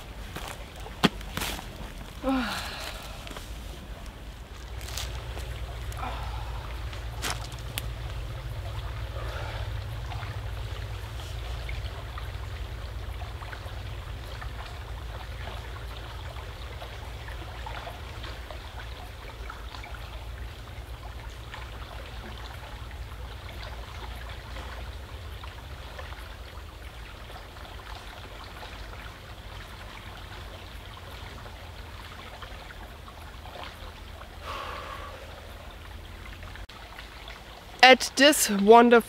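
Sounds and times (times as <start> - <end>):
creek flowing and trickling: 0.0 - 39.0.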